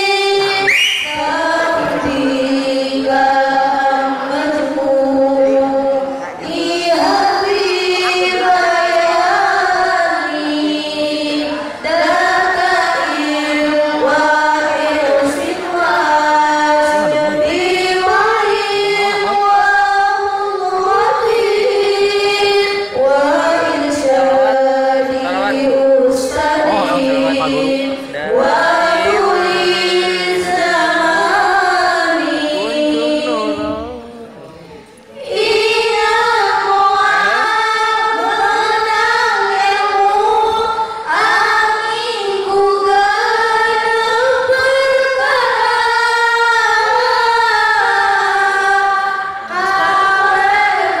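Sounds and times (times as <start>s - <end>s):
girls singing together: 0.0s - 51.0s.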